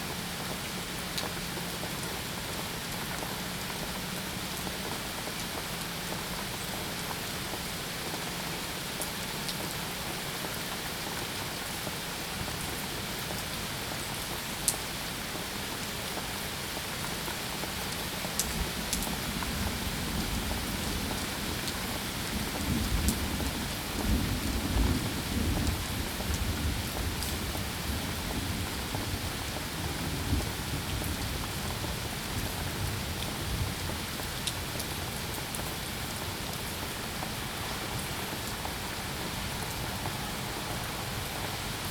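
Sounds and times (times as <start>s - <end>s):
rain drops ticking: 0.0s - 41.9s
steady rain: 0.0s - 41.9s.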